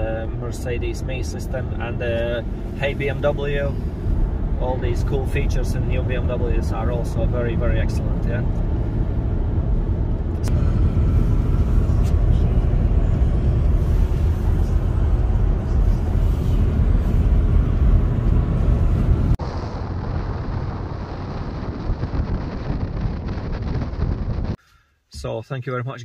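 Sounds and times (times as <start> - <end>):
road and engine rumble in car: 0.0 - 24.6.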